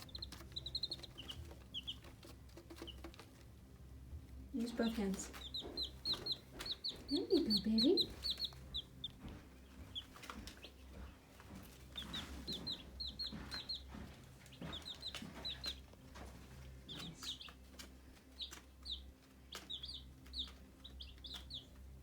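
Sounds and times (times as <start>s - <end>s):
chicks peeping: 0.0s - 22.0s
low steady hum: 0.0s - 22.0s.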